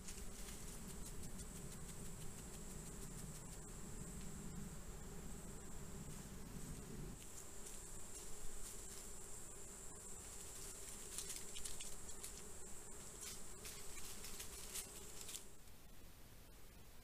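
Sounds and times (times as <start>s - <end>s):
faint crackles: 0.0s - 4.7s, 6.0s - 15.8s
insects trilling: 0.0s - 15.6s
low buzz: 0.5s - 15.6s.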